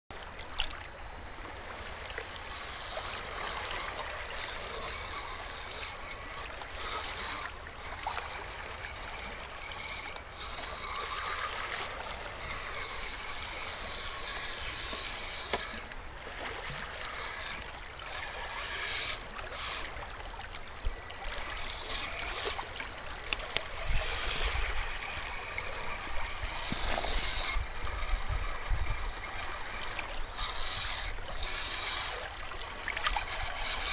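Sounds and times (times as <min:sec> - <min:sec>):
small electric motor whirring: 0:00.1 - 0:33.9
water trickling among rocks: 0:00.2 - 0:33.9.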